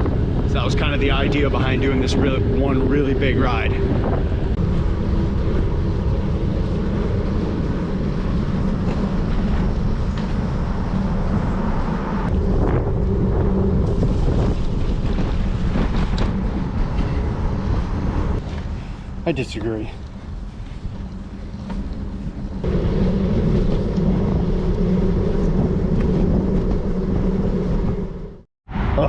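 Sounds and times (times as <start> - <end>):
tyres rumbling on pavement: 0.0 - 18.8, 19.4 - 28.4
wind rushing over microphone: 0.0 - 29.0.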